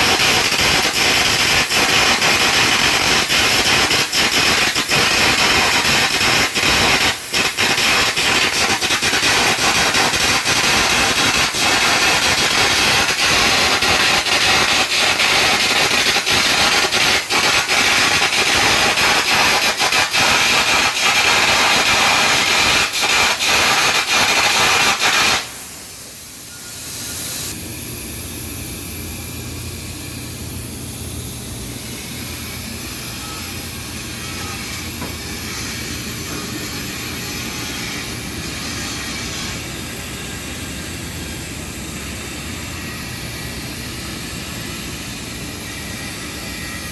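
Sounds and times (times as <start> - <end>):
crackling hissing arc: 0.0 - 46.9
steady hiss with low hum: 0.0 - 46.9.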